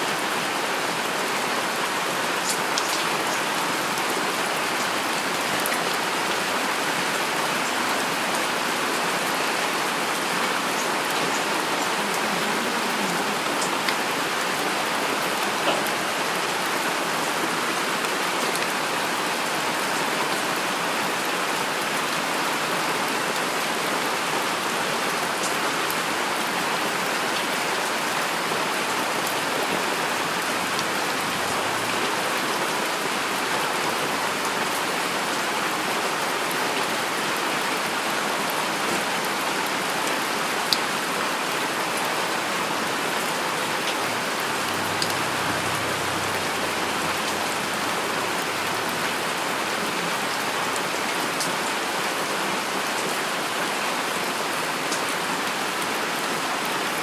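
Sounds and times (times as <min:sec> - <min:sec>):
heavy rain hissing: 0:00.0 - 0:52.2.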